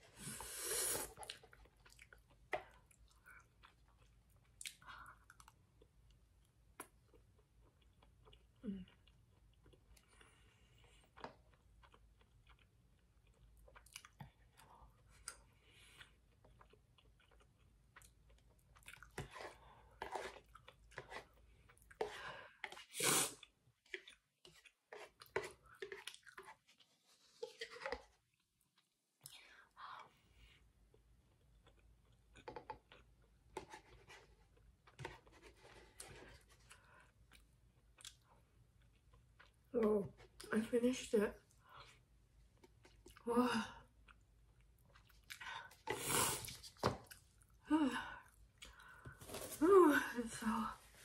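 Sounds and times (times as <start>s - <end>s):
person chewing noodles: 0.1s - 27.4s, 30.4s - 39.7s, 41.5s - 43.2s, 43.9s - 47.6s.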